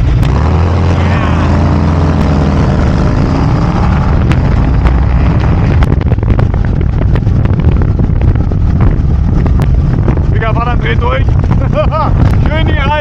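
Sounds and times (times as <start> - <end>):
motorcycle engine accelerating: 0.0 - 13.0
wind buffeting microphone: 0.0 - 13.0.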